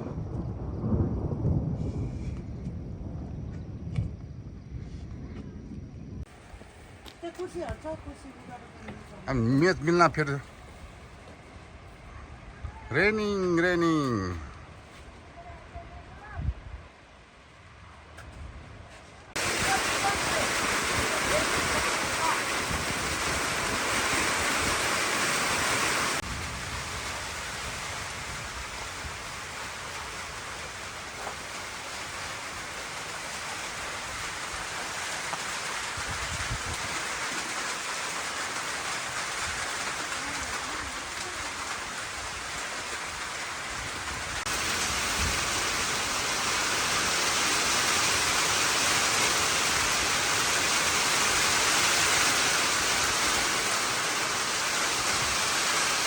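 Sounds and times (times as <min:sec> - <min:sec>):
steady rain falling: 0:06.2 - 0:56.0.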